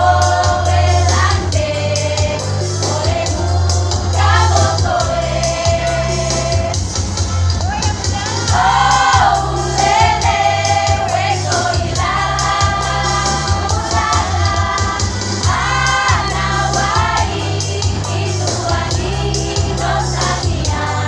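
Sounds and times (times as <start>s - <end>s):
women's choir singing: 0.0s - 6.8s, 8.3s - 21.0s
accompaniment with bass and beat: 0.0s - 21.0s.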